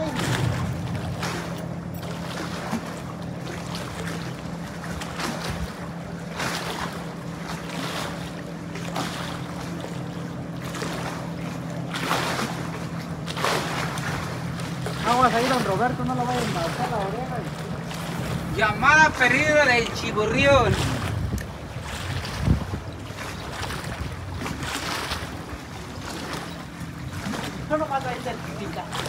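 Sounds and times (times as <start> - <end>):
steady low hum: 0.0 - 29.0
wind and water noise: 0.0 - 29.0.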